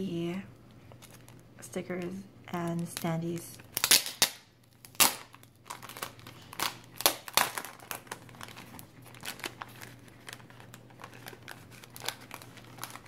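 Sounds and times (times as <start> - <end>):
plastic sleeve crinkling: 0.8 - 2.0, 2.6 - 13.0.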